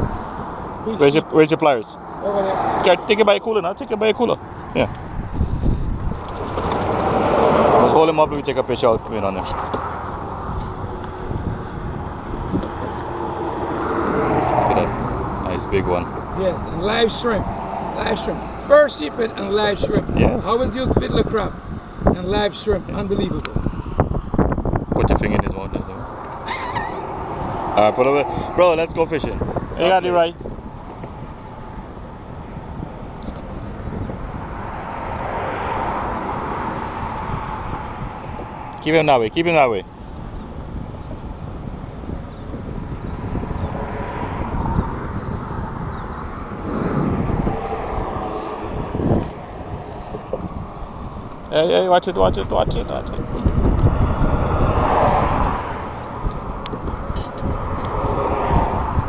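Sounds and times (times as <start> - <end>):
wind noise: 0.0 - 1.4, 2.0 - 59.0
vehicle road noise: 0.0 - 59.0.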